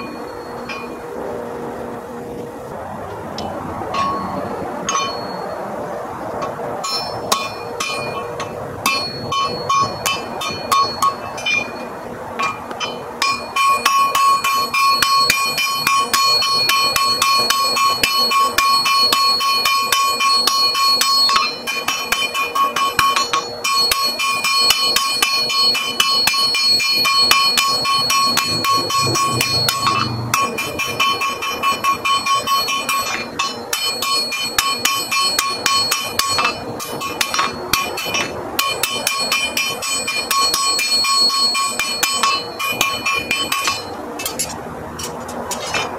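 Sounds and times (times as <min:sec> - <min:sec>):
hammer striking iron on anvil: 0:00.0 - 0:01.0, 0:03.4 - 0:05.4, 0:06.4 - 0:45.9.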